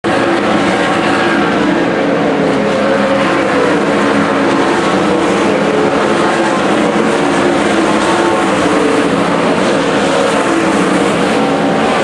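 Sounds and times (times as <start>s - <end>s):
race car engines at speed: 0.0s - 12.0s.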